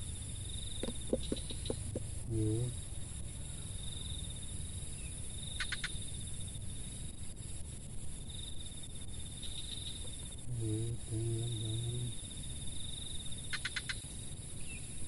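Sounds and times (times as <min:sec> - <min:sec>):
high insect drone: 0:00.0 - 0:15.0
insects trilling: 0:00.0 - 0:15.0
quick insect chirps: 0:00.0 - 0:15.0.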